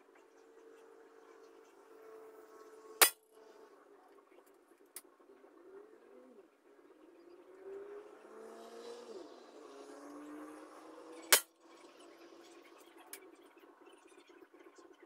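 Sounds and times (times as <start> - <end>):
faint low warbling tones: 0.0 - 15.0.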